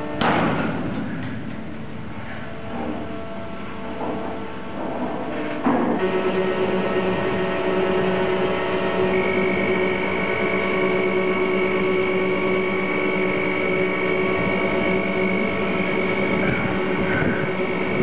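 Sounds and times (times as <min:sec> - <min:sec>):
crane electric drives humming: 0:00.0 - 0:18.0
high steady whine: 0:00.0 - 0:18.0.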